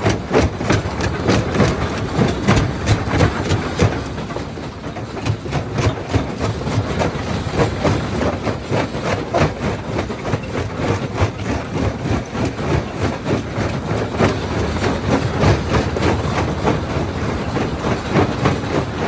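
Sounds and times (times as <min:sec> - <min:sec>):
jaw crusher rumbling: 0:00.0 - 0:19.0.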